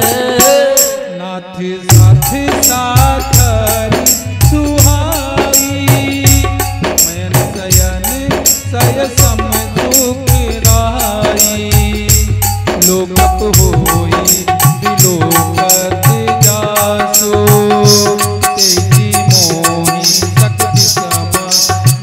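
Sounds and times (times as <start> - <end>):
jingling percussion: 0.0 - 1.1, 1.9 - 22.0
dholak and drum-pad rhythm: 0.0 - 22.0
harmonium melody: 0.0 - 22.0.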